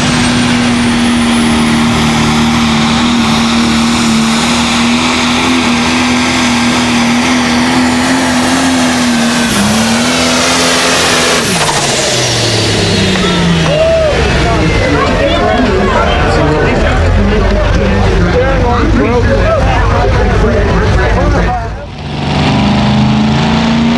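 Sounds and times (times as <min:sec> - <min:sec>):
tractor engine running flat out: 0:00.0 - 0:23.8
thin engine whine: 0:00.0 - 0:23.9.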